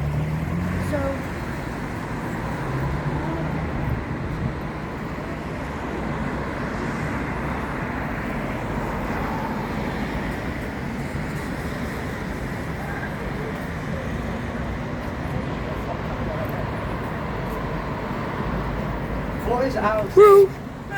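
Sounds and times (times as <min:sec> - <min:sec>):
city street traffic: 0:00.0 - 0:20.9.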